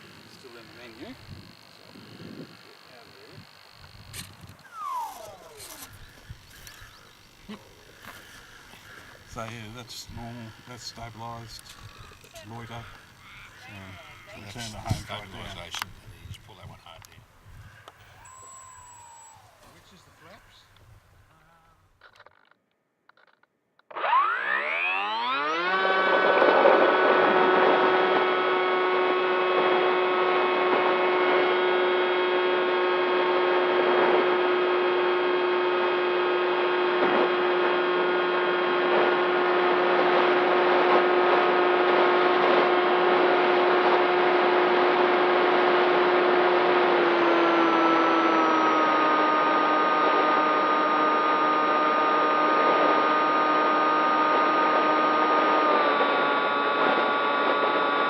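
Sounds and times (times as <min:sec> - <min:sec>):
model plane motor whine: 0:00.0 - 0:20.7, 0:23.2 - 0:58.0.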